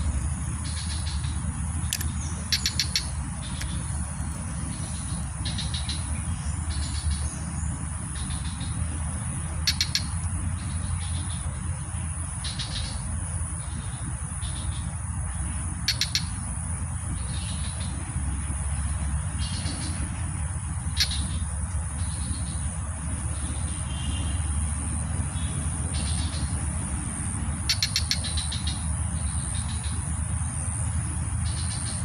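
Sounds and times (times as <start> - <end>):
constant low rumble: 0.0 - 32.0.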